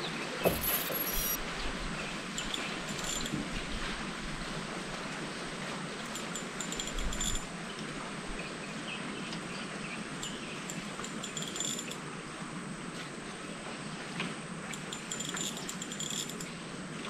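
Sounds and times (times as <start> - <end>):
wind and river water: 0.0 - 17.0.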